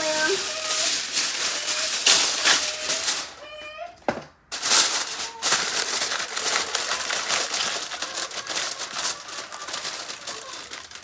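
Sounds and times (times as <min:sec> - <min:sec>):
aluminium foil crinkling: 0:00.0 - 0:03.4, 0:04.5 - 0:11.0.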